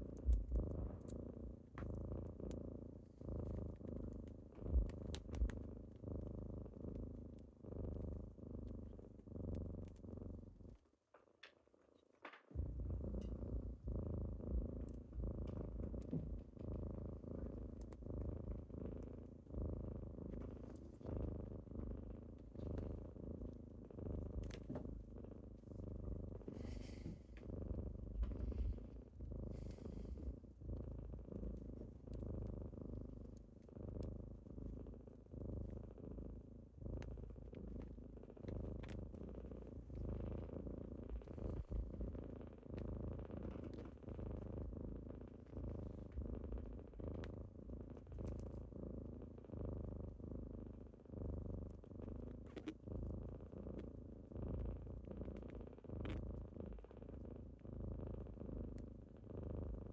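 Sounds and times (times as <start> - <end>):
kittens purring: 0.0 - 59.9.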